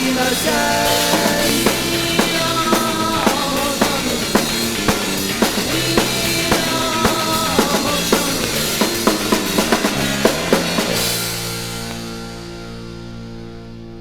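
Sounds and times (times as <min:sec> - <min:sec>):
drum kit beat: 0:00.0 - 0:12.6
garage rock from vinyl record: 0:00.0 - 0:14.0.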